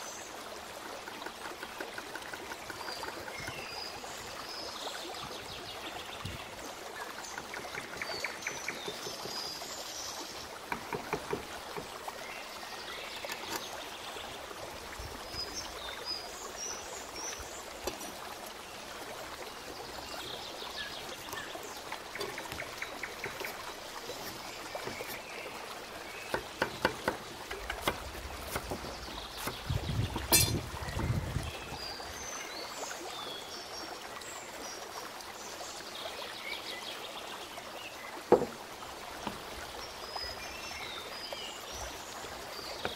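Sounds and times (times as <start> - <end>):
water trickling: 0.0 - 42.9.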